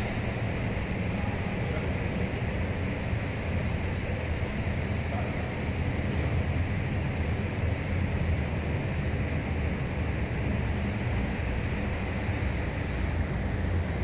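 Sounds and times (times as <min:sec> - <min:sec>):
faint high whine: 0:00.0 - 0:14.0
low rumbling background noise: 0:00.0 - 0:14.0.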